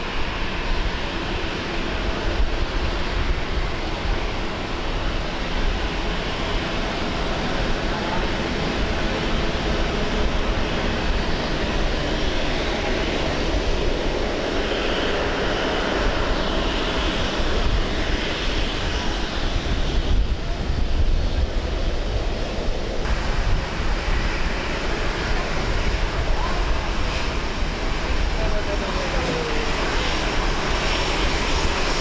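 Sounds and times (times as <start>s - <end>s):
jet engines running: 0.0s - 32.0s.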